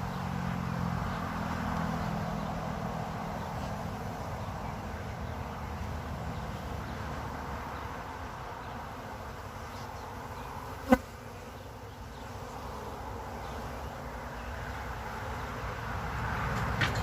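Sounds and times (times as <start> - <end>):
honey bees buzzing: 0.0 - 16.7.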